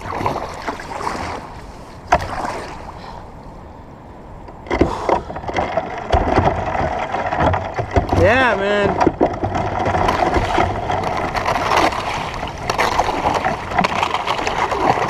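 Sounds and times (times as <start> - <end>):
paddle splashing water: 0.0 - 3.3, 4.6 - 15.0.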